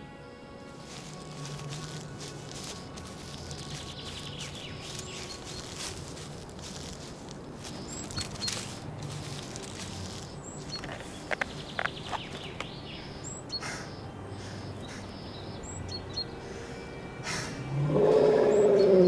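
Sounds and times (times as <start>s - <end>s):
rustles: 0.6s - 16.2s
small birds chirping: 0.6s - 19.0s.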